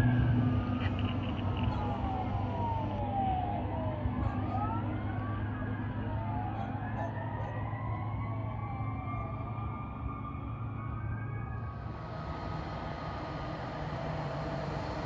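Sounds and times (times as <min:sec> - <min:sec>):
fire engine sirens wailing: 0:00.0 - 0:15.0
low engine rumble: 0:00.0 - 0:15.0.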